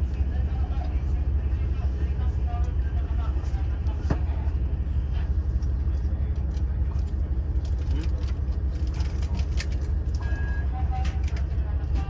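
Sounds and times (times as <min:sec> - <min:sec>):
diesel railcar idling: 0:00.0 - 0:12.0.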